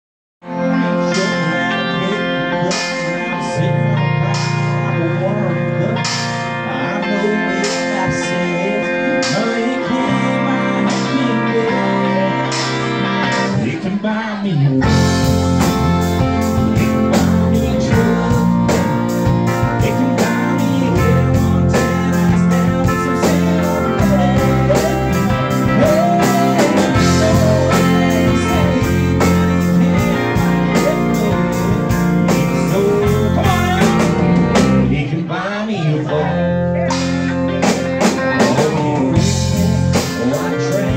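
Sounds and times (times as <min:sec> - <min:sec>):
live country band playing: 0:00.4 - 0:40.9
man singing: 0:00.4 - 0:40.9.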